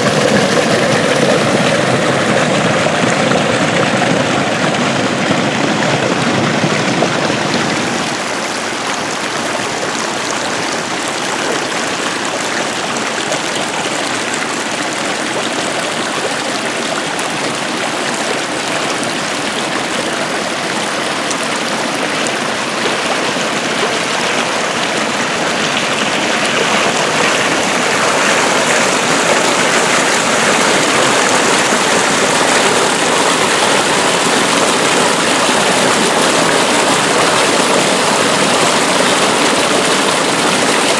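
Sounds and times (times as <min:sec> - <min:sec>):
water rushing along ditch: 0:00.0 - 0:40.9.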